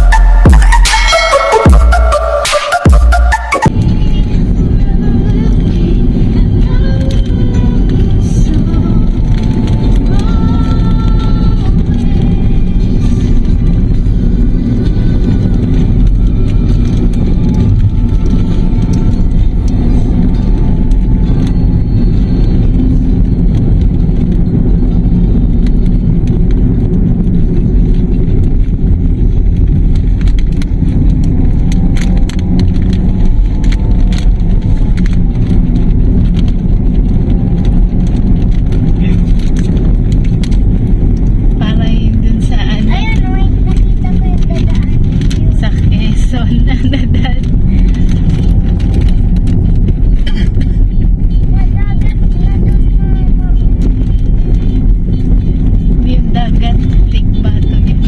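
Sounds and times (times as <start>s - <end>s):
road noise: 0.0s - 58.0s
road vehicle engine rumble: 0.0s - 58.0s.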